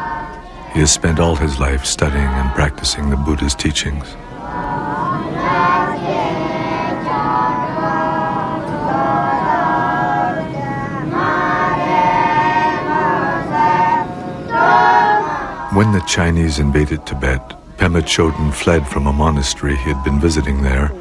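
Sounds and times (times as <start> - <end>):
group chanting in unison: 0.0 - 20.2.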